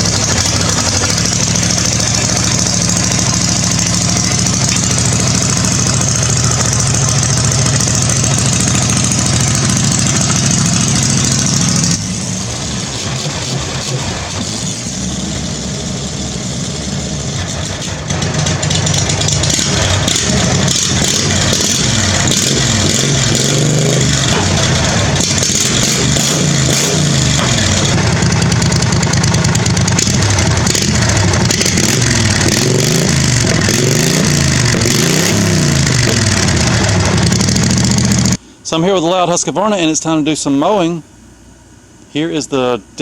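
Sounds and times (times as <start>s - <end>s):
mower engine revving: 0.0s - 38.4s.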